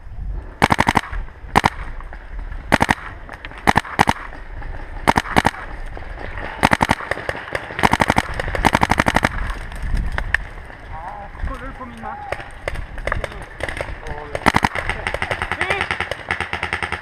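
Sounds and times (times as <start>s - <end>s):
paintball markers firing: 0.6s - 2.1s, 2.7s - 10.5s, 12.2s - 17.0s.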